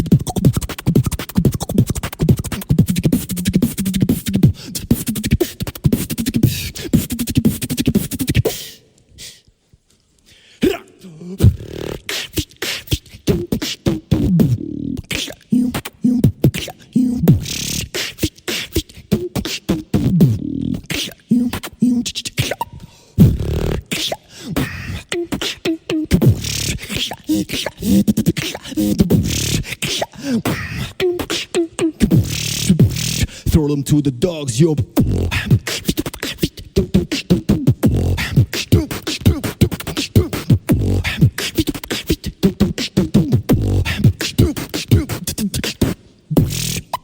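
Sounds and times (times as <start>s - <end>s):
beatboxing: 0.0s - 9.6s, 10.5s - 47.0s.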